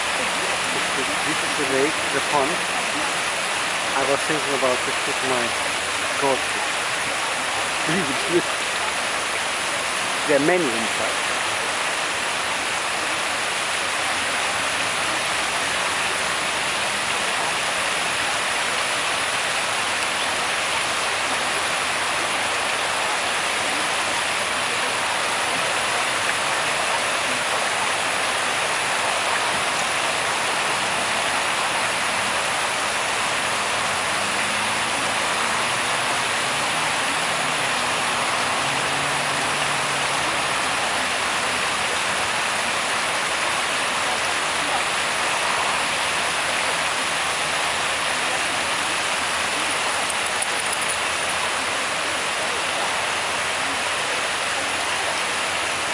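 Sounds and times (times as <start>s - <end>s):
water rushing: 0.0s - 55.9s.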